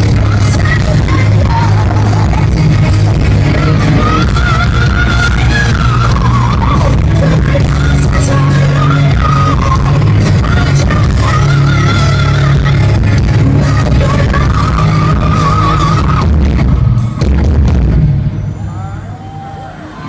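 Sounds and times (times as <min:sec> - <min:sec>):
pop-rock music: 0:00.0 - 0:20.0.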